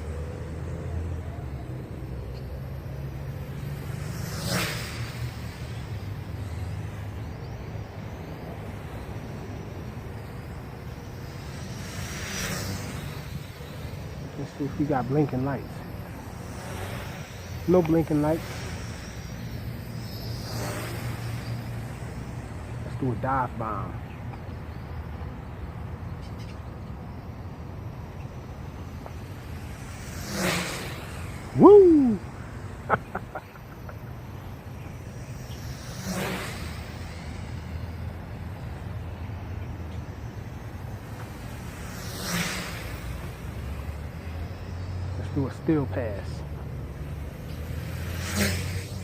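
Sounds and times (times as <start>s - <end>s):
quadcopter propellers buzzing: 0.0s - 49.0s.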